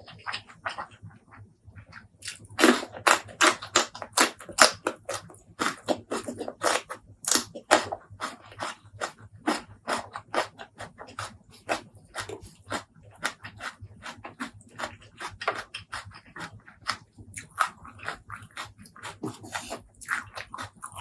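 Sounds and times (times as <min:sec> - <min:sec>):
chewing crunchy food: 0:00.0 - 0:21.0.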